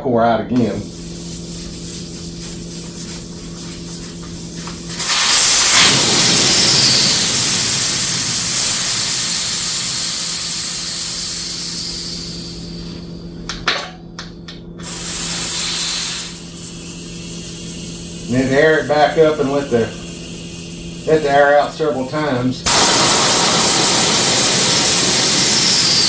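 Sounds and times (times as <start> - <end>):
short loud burst of air: 0.8 - 12.9, 14.8 - 19.1, 19.8 - 21.2, 22.7 - 26.0
air hissing from inner tube: 0.8 - 13.2, 14.8 - 21.8, 22.6 - 26.0.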